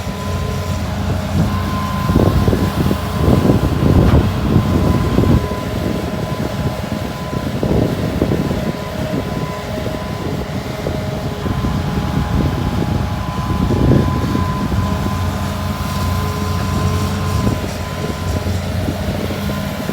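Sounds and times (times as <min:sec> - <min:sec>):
excavator diesel engine under load: 0:00.0 - 0:19.9.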